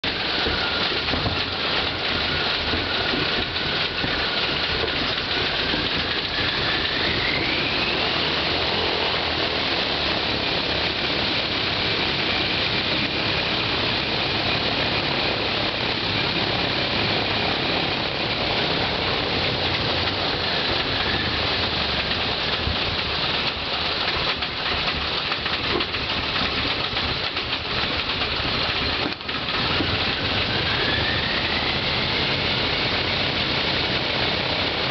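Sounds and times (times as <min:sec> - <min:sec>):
engine whine: 0:00.0 - 0:34.9
propeller engine droning: 0:00.0 - 0:34.9.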